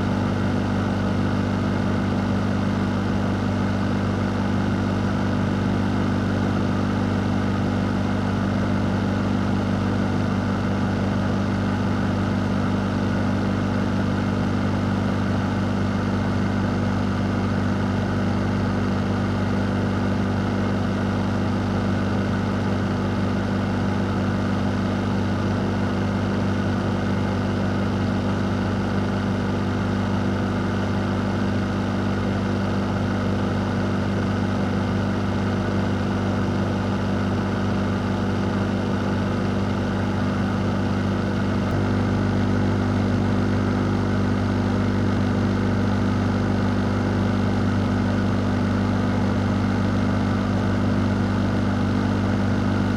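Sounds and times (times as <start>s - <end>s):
electric fan running: 0.0s - 52.9s.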